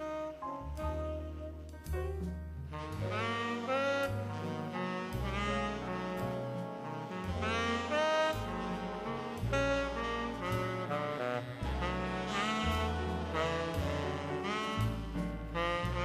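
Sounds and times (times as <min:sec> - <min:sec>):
saxophone melody: 0:00.0 - 0:01.8, 0:02.6 - 0:16.0
bass line: 0:00.0 - 0:16.0.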